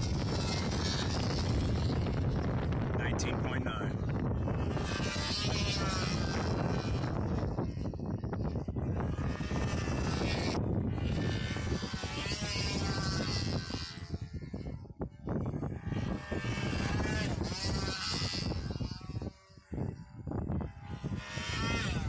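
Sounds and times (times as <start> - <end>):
model airplane buzzing: 0.0 - 22.0
wind on microphone: 0.0 - 22.0.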